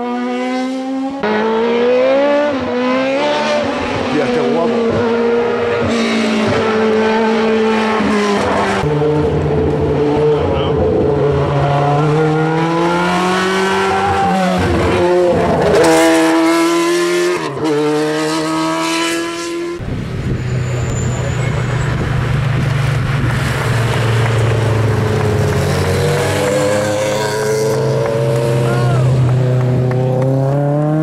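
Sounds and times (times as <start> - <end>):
other car engines approaching: 0.0 - 31.0
race car engine revving: 0.0 - 31.0.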